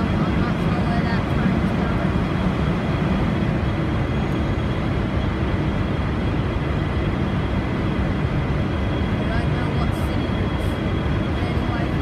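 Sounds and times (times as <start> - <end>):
high-pitched whine: 0.0 - 12.0
locomotive engine rumbling: 0.0 - 12.0.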